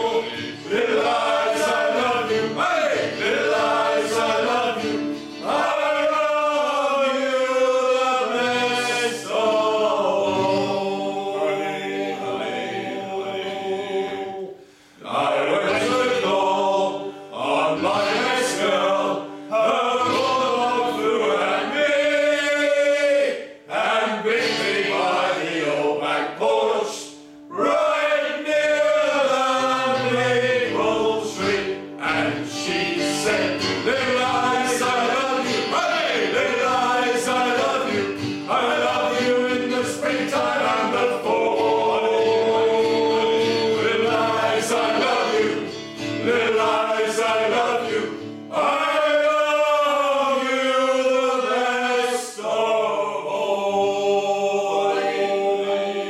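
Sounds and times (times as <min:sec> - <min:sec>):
acoustic guitar strumming: 0:00.0 - 0:14.4, 0:15.3 - 0:16.4, 0:17.1 - 0:22.1, 0:22.9 - 0:49.1
group singing: 0:00.0 - 0:56.0.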